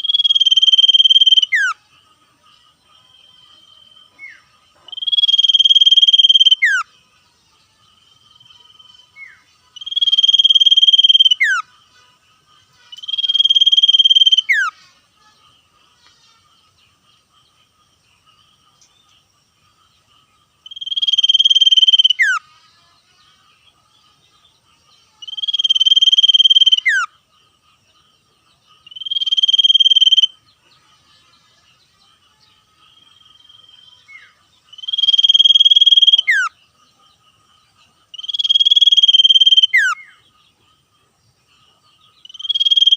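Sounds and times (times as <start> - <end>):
bird buzzing trill song: 0.0 - 41.4, 42.0 - 42.9.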